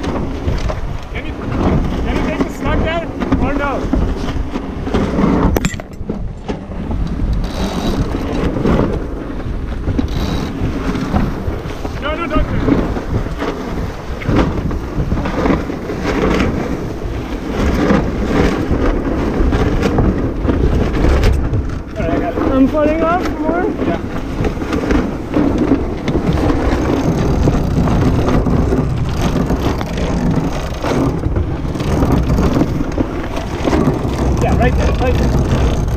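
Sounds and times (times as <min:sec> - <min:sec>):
water rushing along boat hull: 0:00.0 - 0:35.9
wind buffeting microphone: 0:00.0 - 0:35.9.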